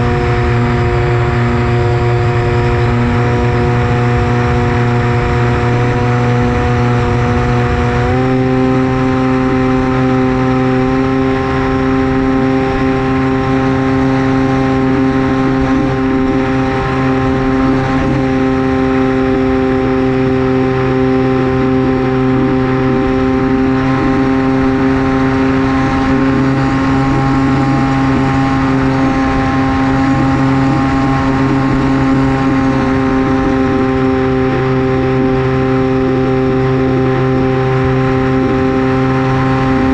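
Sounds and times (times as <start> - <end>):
electric motor propeller whine: 0.0 - 39.9.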